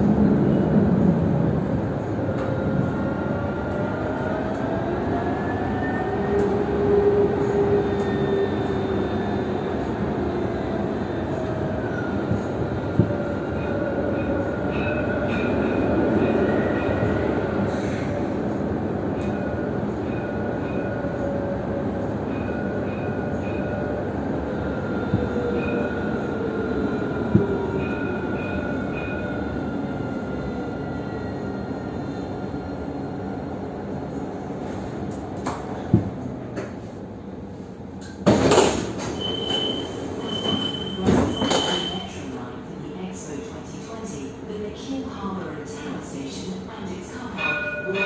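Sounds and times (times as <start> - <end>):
tram wheels rumbling: 0.0 - 48.0.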